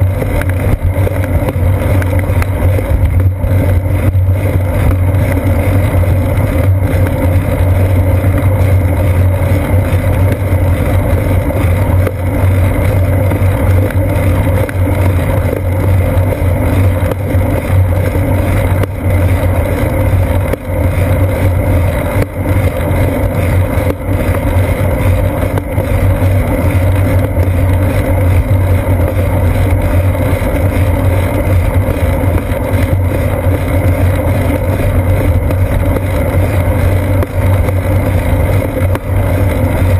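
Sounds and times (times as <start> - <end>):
bicycle rolling on asphalt: 0.0 - 39.9.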